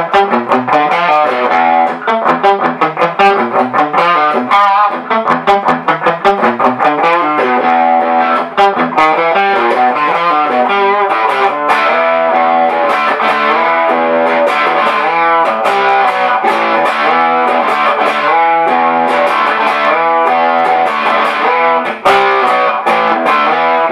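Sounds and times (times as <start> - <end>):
electric guitar playing fast notes: 0.0 - 23.9.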